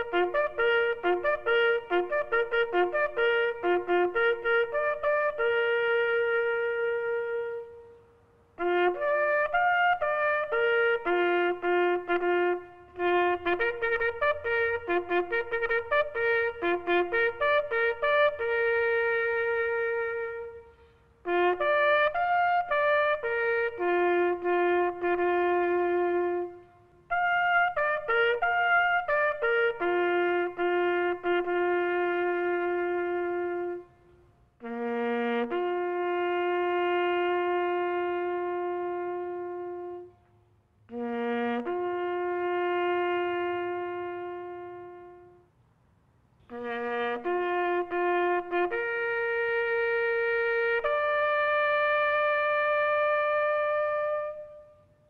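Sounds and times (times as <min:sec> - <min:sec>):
bugle playing slow call: 0:00.0 - 0:45.5, 0:46.4 - 0:55.0.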